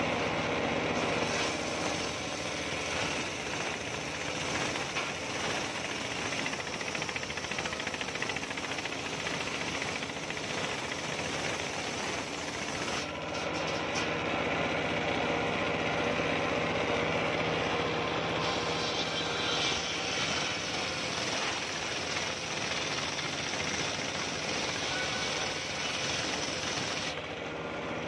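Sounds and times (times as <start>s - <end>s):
circular saw cutting wood: 0.0s - 28.0s.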